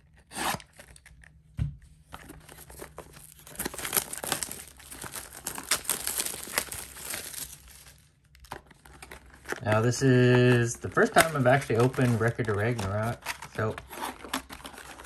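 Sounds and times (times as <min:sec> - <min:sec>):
plastic shrink-wrap crinkling: 0:02.2 - 0:15.0.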